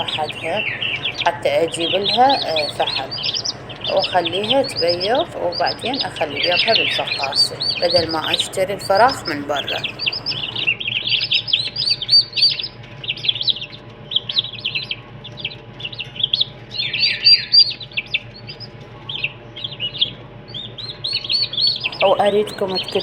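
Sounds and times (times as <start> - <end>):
turkey poults peeping: 0.0 - 23.0.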